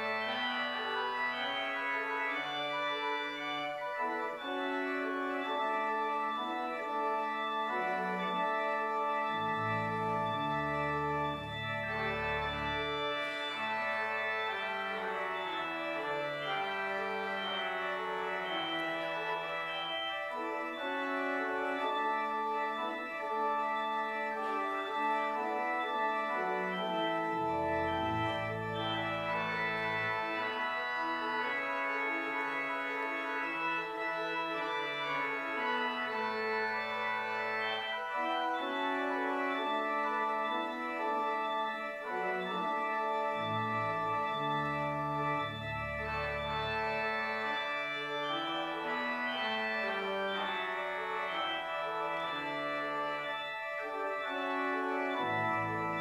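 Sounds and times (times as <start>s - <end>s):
church organ chords: 0.0s - 56.0s.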